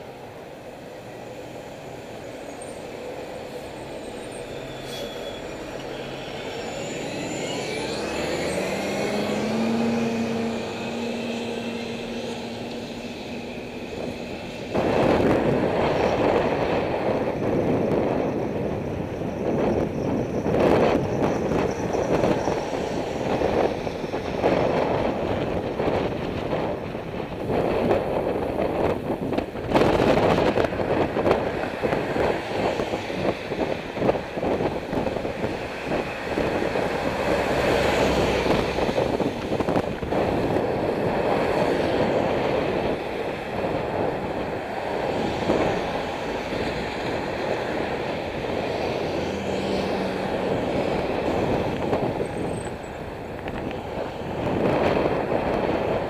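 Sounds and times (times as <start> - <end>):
traffic noise: 0.0 - 56.0
wind buffeting microphone: 5.5 - 56.0.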